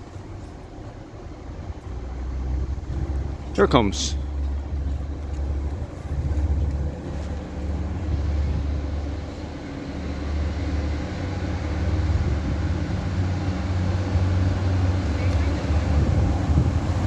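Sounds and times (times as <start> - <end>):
deep train engine rumble: 0.0 - 17.0
train hum: 0.0 - 17.0.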